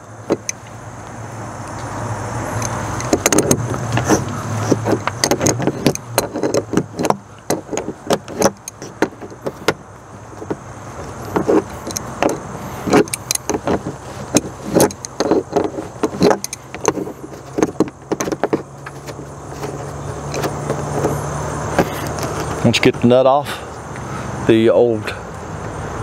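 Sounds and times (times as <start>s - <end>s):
nut and lock clinking: 0.0s - 0.7s, 2.5s - 22.7s
metal clicks and scrapes: 0.0s - 0.8s, 1.6s - 22.9s
steady low hum: 0.0s - 26.0s.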